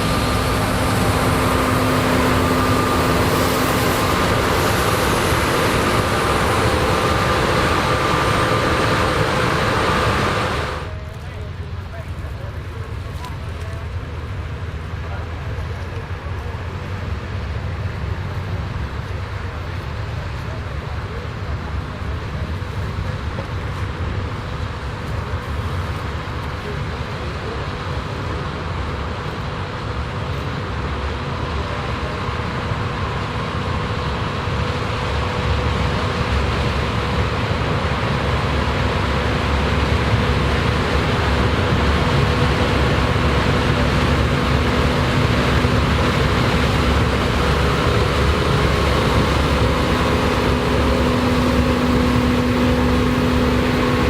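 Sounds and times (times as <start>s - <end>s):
multi-tone whine: 0.0s - 14.0s, 18.8s - 54.0s
combine and tractor engines: 0.0s - 54.0s.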